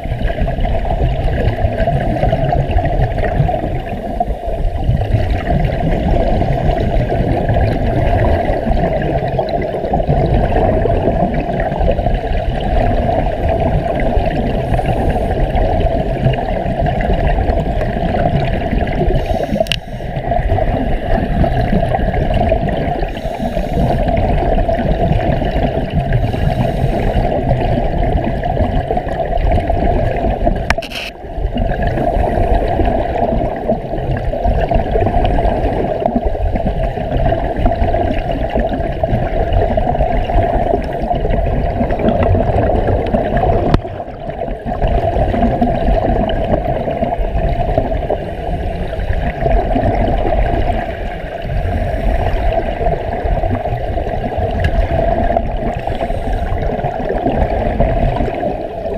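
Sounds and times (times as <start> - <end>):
underwater rumble and bubbles: 0.0 - 58.9.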